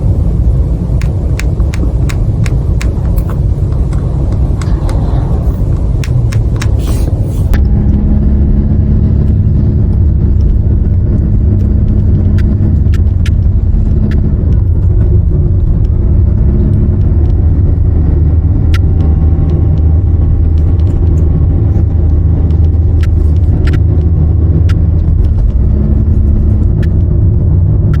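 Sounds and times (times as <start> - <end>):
road rumble inside car: 0.0 - 28.0.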